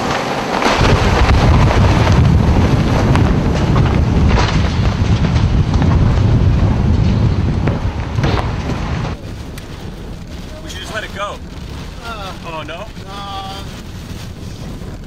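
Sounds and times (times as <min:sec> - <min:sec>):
debris crackling and rattling: 0:00.0 - 0:15.0
storm wind buffeting microphone: 0:00.0 - 0:15.0.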